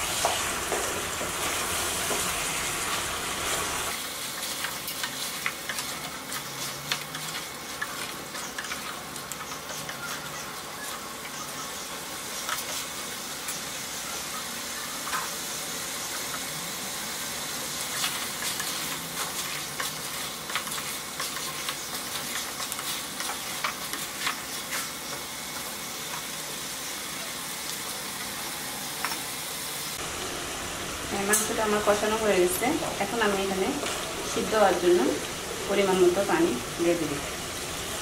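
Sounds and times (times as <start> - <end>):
chicken sizzling in oil: 0.0 - 38.0.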